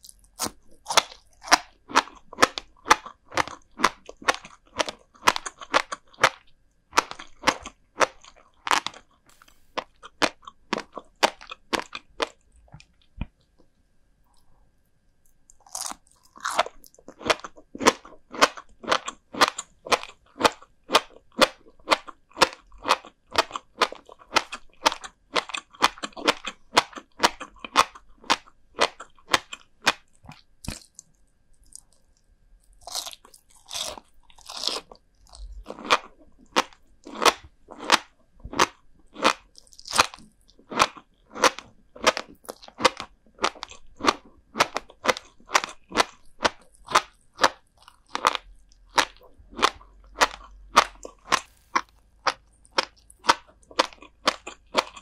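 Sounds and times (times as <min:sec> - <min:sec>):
crunchy chewing: 0:00.0 - 0:14.5, 0:15.2 - 0:55.0.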